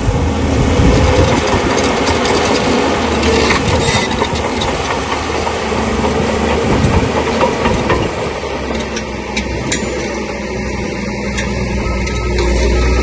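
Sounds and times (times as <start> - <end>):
bulldozer diesel engine under load: 0.0 - 13.0.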